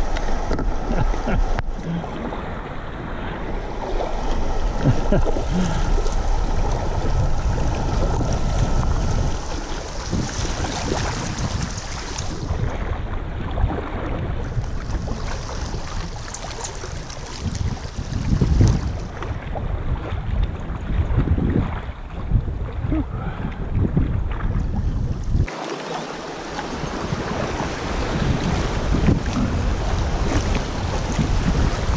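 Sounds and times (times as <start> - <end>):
river water rushing and splashing: 0.0 - 23.0, 25.4 - 31.9
wind buffeting microphone: 0.0 - 25.5, 26.4 - 31.9.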